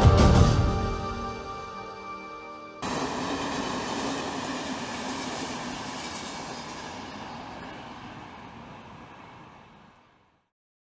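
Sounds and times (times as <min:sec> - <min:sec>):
passenger train running past: 0:00.0 - 0:10.5.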